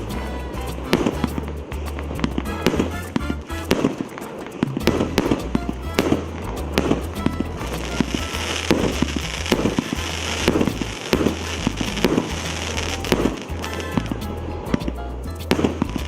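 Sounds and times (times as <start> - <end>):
fireworks crackling: 0.0 - 16.0
fireworks shots: 0.8 - 16.0.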